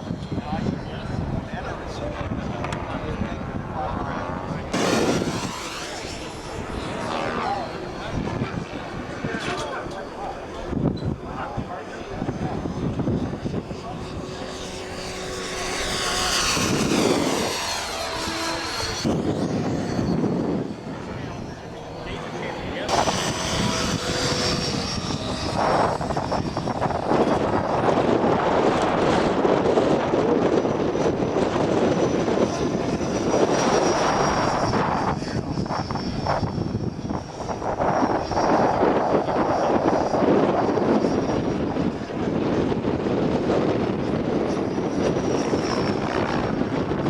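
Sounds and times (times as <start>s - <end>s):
rc helicopter motor and rotor whine: 0.0s - 47.0s
wind buffeting microphone: 0.0s - 47.0s.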